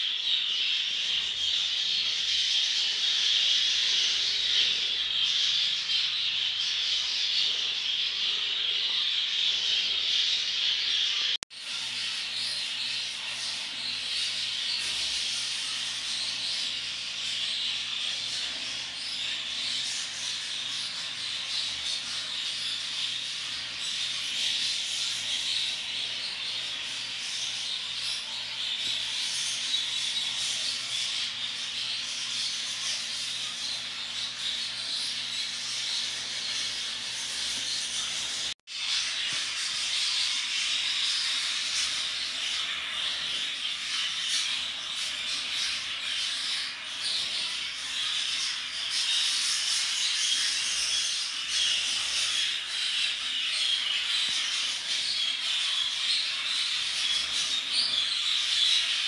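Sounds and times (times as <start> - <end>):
budgerigars chattering and warbling: 0.0 - 59.0.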